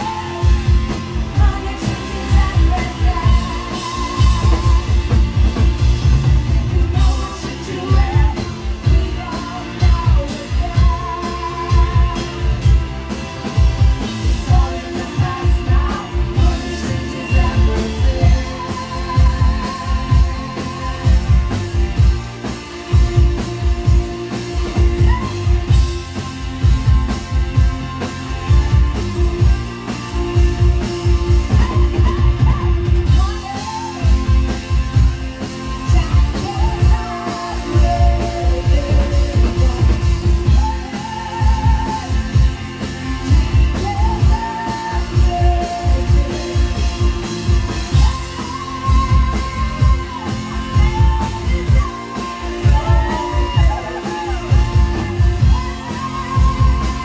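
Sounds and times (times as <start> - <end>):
person singing: 0.0 - 5.3, 6.5 - 12.9, 14.0 - 26.0, 30.1 - 57.0
drum kit beat: 0.0 - 57.0
live rock band playing: 0.0 - 57.0.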